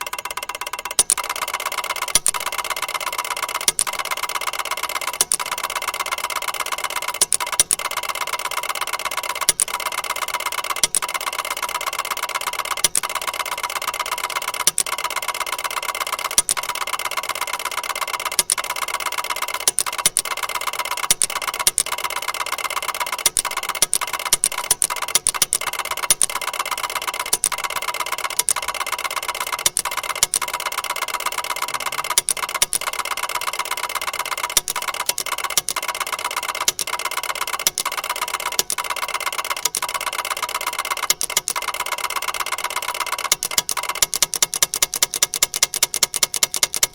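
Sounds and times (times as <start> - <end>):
sharp mechanical clacks: 0.0 - 46.9
ticker tape machine chatter: 0.0 - 46.9.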